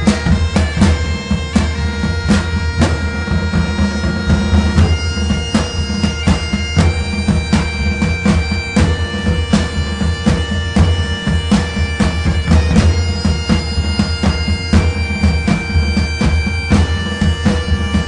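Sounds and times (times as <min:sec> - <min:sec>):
held melody notes: 0:00.0 - 0:18.0
steady drum beat: 0:00.0 - 0:18.0.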